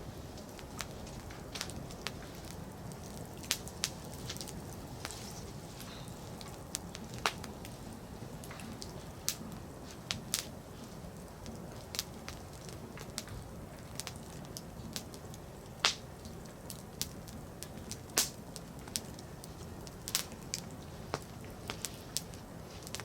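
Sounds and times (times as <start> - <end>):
fire flames rustling: 0.0 - 23.0
firewood crackling and popping: 0.0 - 23.0.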